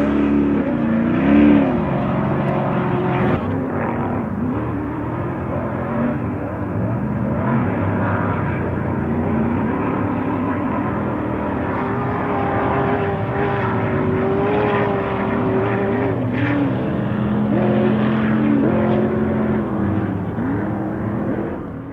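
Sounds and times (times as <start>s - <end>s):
buggy engine droning: 0.0s - 21.9s.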